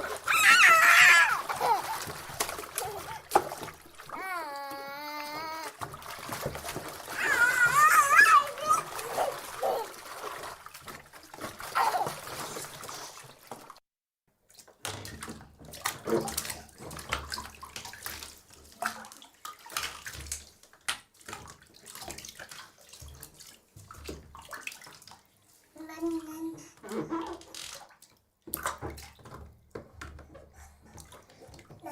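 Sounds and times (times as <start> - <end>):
bath water splashing: 0.0 - 13.8, 14.4 - 31.9.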